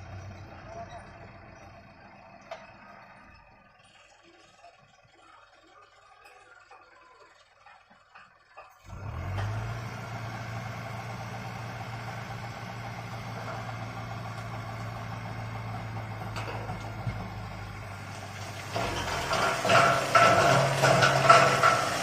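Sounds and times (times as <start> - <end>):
heavy vehicle engine humming: 0.0 - 22.0.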